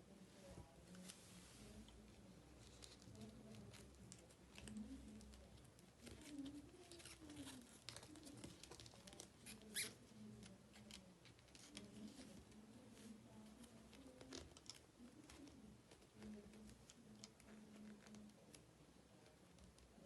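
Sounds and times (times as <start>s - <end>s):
small items tapping and rustling: 2.6s - 18.6s.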